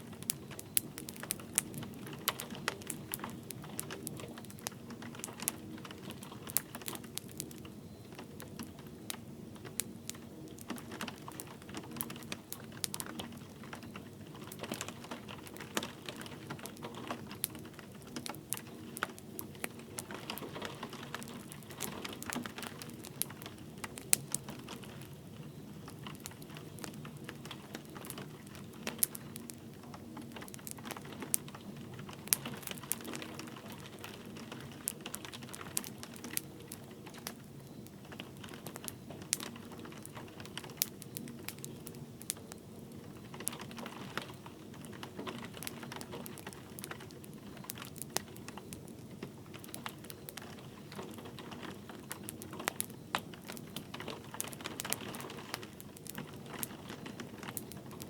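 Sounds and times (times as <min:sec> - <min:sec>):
light rain pattering: 0:00.0 - 0:58.0
wood fire crackling: 0:00.0 - 0:58.0.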